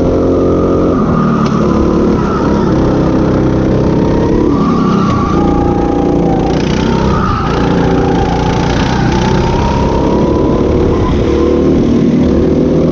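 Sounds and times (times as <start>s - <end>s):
go-kart engine accelerating: 0.0s - 12.9s.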